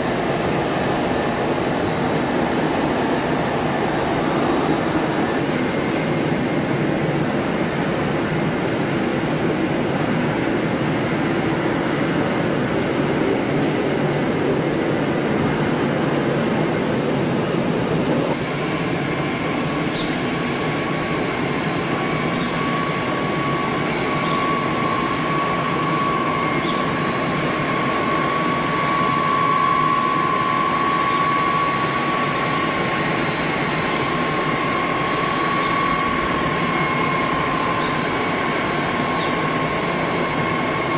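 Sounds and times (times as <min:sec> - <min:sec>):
high-pitched turbine whine: 0:00.0 - 0:40.9
jet engines rushing noise: 0:00.0 - 0:40.9.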